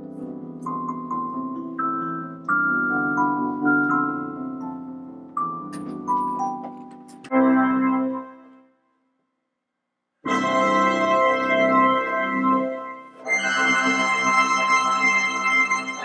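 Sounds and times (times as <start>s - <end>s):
organ chords: 0.0s - 8.6s, 10.3s - 16.0s.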